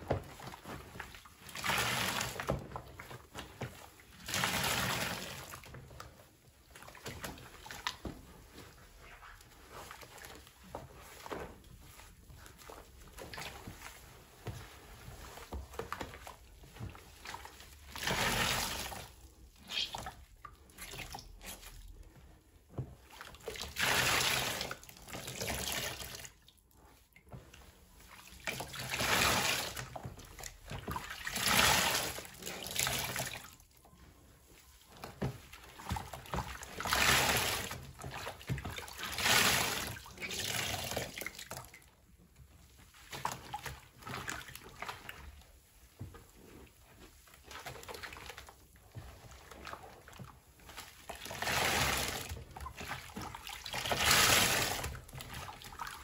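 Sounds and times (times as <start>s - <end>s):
sponges squelching in soapy water: 0.0s - 56.0s.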